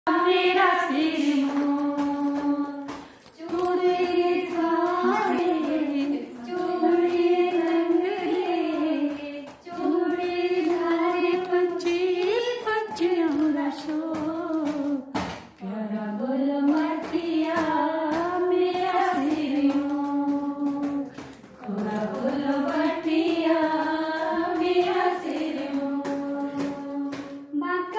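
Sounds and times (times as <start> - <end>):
woman singing unaccompanied: 0.1 - 27.9.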